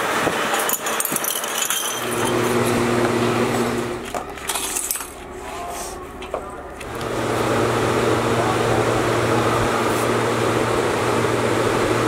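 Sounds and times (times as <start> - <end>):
steady machine hum: 1.8 - 12.0.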